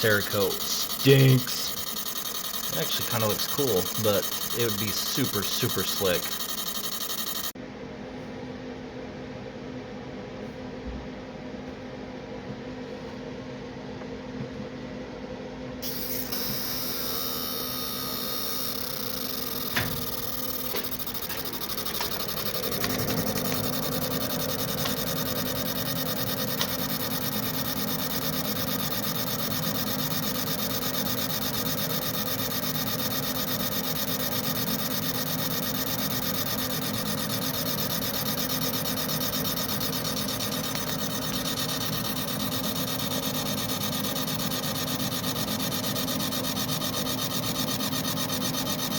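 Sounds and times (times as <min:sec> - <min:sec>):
motor hum: 0:00.0 - 0:07.6, 0:15.8 - 0:48.9.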